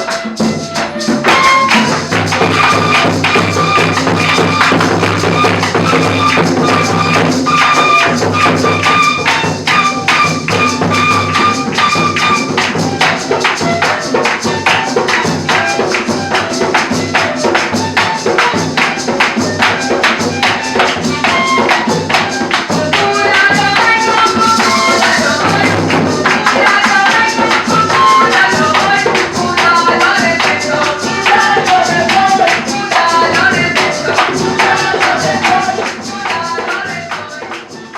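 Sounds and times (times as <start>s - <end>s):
cumbia band playing: 0.0s - 37.9s.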